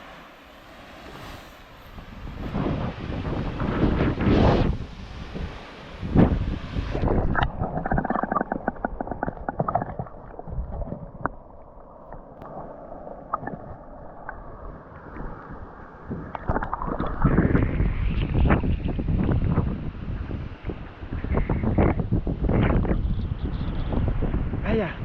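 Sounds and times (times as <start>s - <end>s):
water gurgling and splashing: 2.6s - 22.6s.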